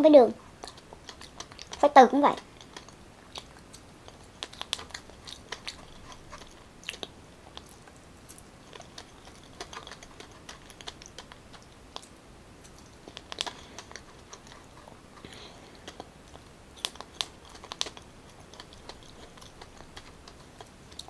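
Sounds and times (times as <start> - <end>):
wet mouth clicks while chewing: 0.5 - 1.8, 2.4 - 21.0.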